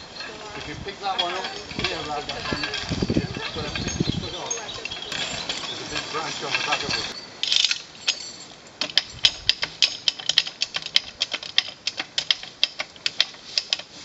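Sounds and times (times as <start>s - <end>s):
ratchet winch clicking: 0.0s - 8.2s, 8.8s - 14.0s.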